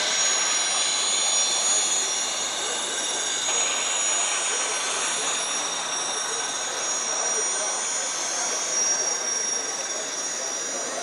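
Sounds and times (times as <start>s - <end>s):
high jet-like whine from small speaker: 0.0s - 11.0s
model freight cars rolling: 0.0s - 11.0s.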